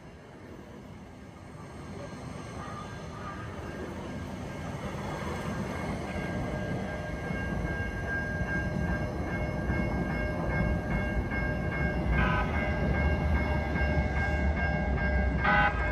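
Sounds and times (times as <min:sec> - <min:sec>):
train rumble: 0:00.0 - 0:15.9.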